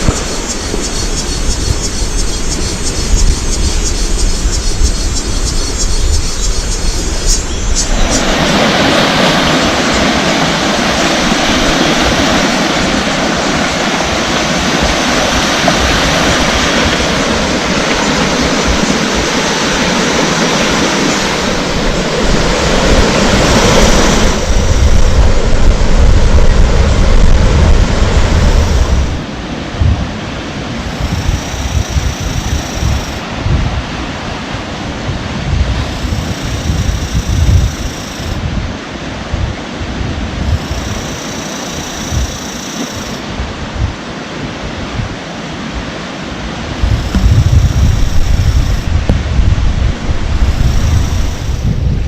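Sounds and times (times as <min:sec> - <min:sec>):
sea surf washing in: 0:00.0 - 0:52.0
wind buffeting microphone: 0:00.0 - 0:52.0.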